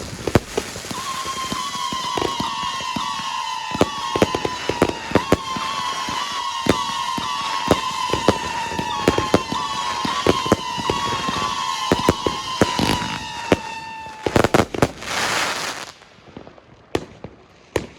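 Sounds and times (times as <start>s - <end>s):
sharp firework reports: 0.0s - 15.9s
loud firework bangs: 0.0s - 17.9s
whistling firework shots: 0.0s - 17.9s.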